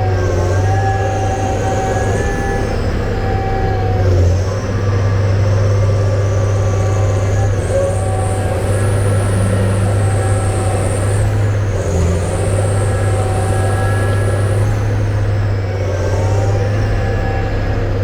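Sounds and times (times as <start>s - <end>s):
tractor diesel engine droning: 0.0s - 18.0s.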